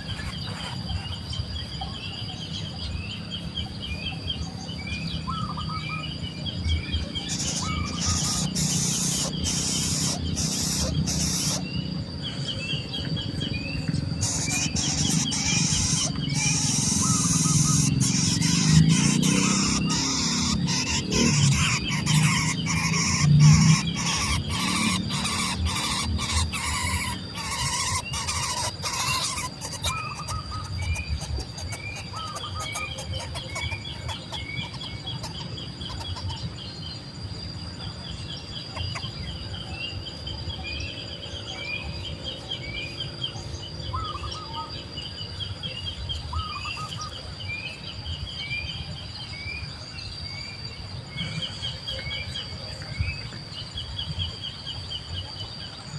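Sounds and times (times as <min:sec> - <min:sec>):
insect drone: 0:00.0 - 0:55.9
nestling birds begging chirps: 0:00.0 - 0:55.9.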